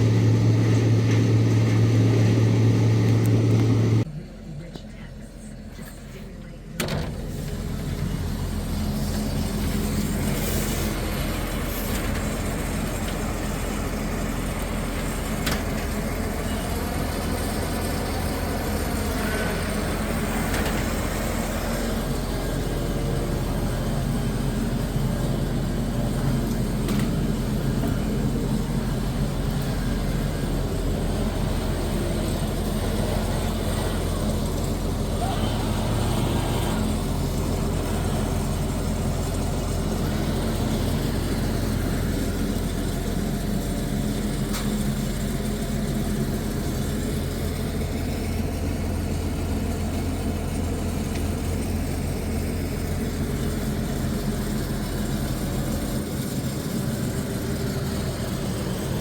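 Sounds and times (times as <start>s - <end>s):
tree chipper engine droning: 0.0s - 4.7s, 6.8s - 59.0s.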